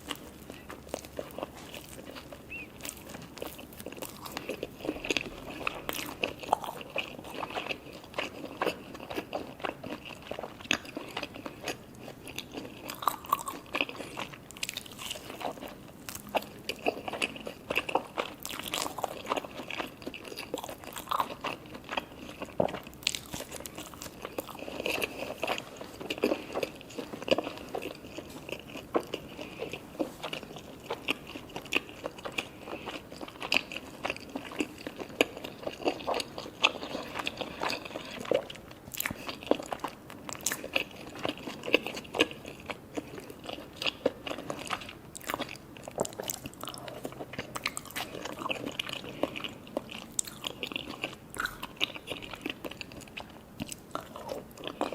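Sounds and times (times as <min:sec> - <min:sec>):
crunchy bites and chewing: 0:00.0 - 0:54.9.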